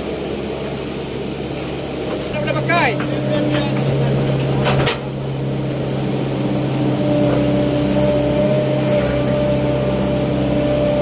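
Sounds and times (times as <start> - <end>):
excavator diesel engine running: 0.0 - 11.0
hydraulic whine: 0.0 - 11.0.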